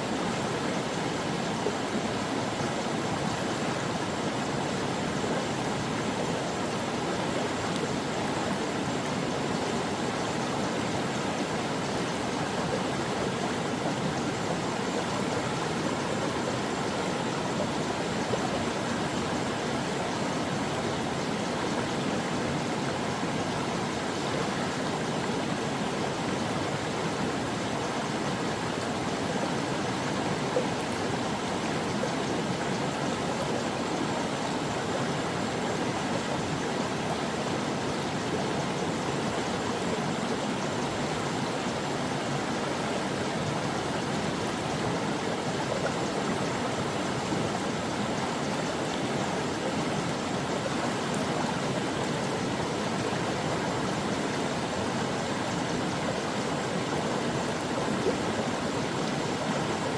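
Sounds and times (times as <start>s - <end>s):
brook water running over rocks: 0.0s - 59.9s.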